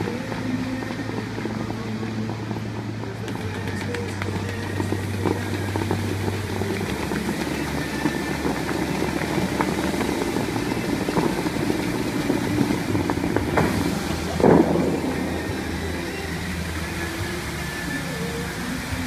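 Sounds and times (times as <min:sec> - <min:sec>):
fountain water jets spraying: 0:00.0 - 0:19.0
low rumble: 0:00.0 - 0:19.0.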